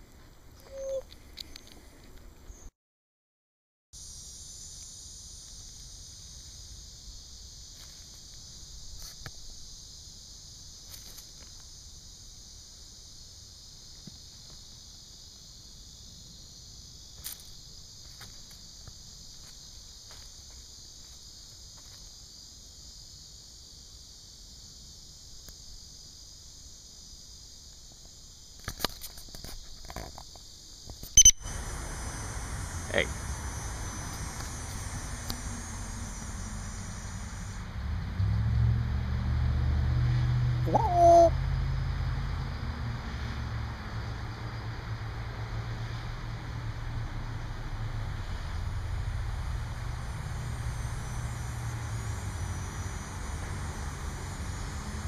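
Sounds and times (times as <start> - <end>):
insects chirring: 4.0 - 55.0.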